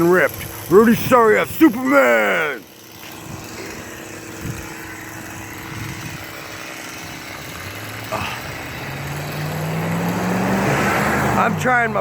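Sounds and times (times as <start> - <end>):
distant chainsaw running: 0.0 - 12.0.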